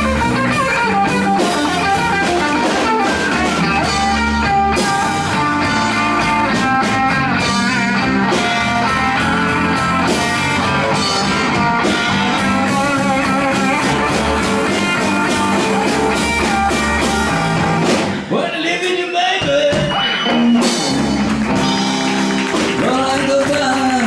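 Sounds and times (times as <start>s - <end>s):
electric guitar bent notes: 0.0s - 18.4s, 19.4s - 24.0s
live blues band playing: 0.0s - 24.0s.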